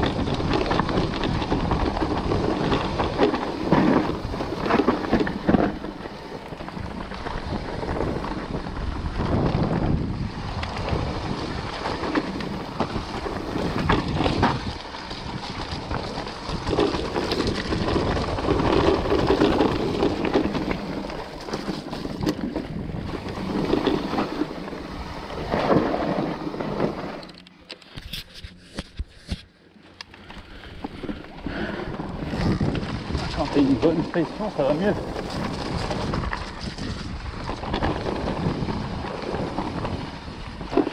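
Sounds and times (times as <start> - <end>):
wind buffeting microphone: 0.0 - 27.3, 30.3 - 40.9
tyres rumbling on dirt: 0.0 - 27.4, 30.2 - 40.9
bike knocks and rattles: 0.0 - 29.5, 30.1 - 40.9.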